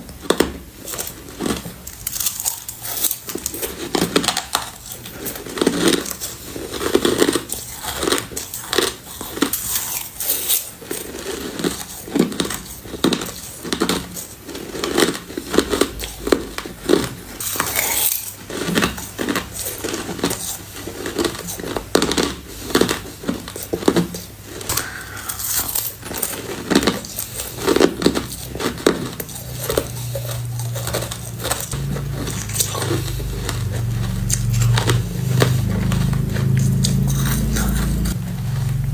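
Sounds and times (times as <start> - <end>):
crushed ice crunching: 0.3 - 38.9.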